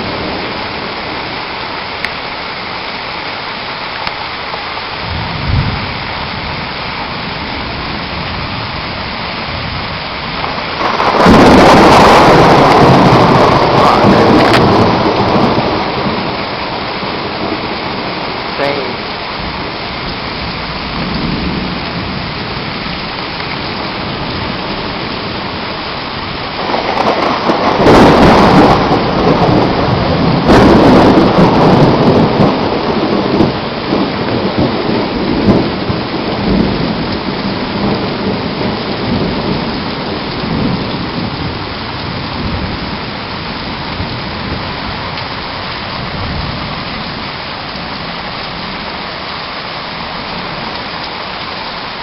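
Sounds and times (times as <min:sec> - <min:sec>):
heavy rain pouring: 0:00.0 - 0:52.0
thunder cracking and rumbling: 0:05.0 - 0:49.2.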